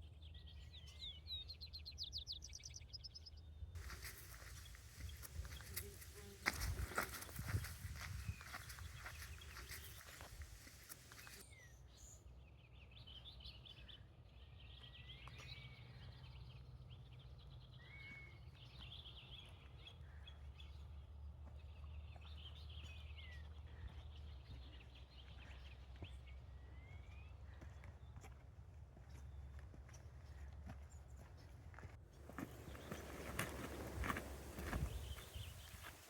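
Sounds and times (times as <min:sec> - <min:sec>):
faint birdsong: 0:00.0 - 0:36.0.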